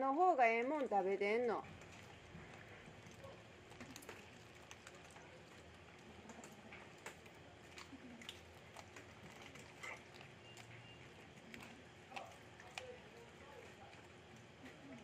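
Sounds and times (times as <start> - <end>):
cats chewing: 1.5 - 15.0.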